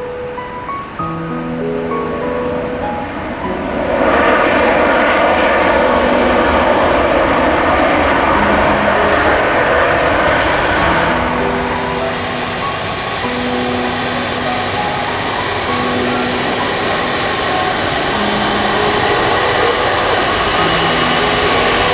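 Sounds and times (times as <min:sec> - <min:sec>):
jet airliner engine roar: 0:00.0 - 0:21.9.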